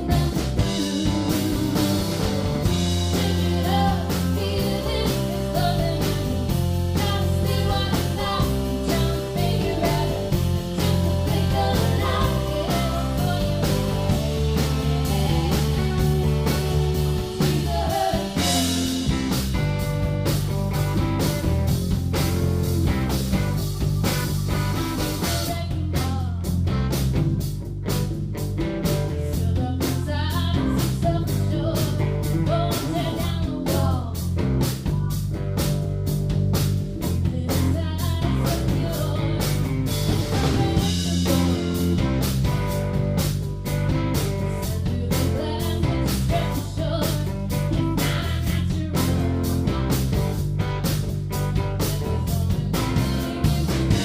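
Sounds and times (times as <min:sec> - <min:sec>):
live rock band playing blues: 0:00.0 - 0:54.0.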